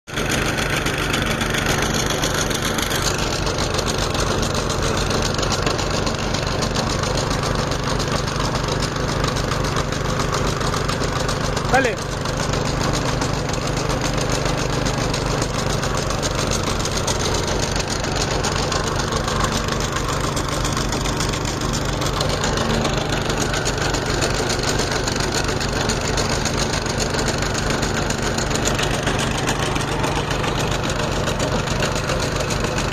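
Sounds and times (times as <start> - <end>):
diesel engine running: 0.1 - 32.9.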